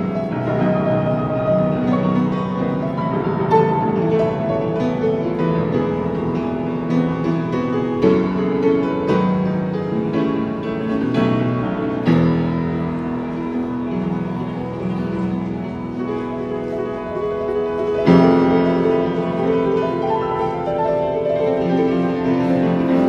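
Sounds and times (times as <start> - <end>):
piano chords struck hard: 0.0 - 23.0
upright piano improvising: 0.0 - 23.0.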